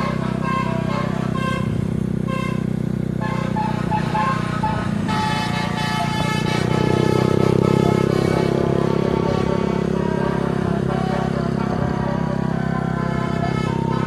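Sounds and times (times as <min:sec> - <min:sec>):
bus engine running: 0:00.0 - 0:14.0
multi-tone horn playing a tune: 0:00.0 - 0:14.0.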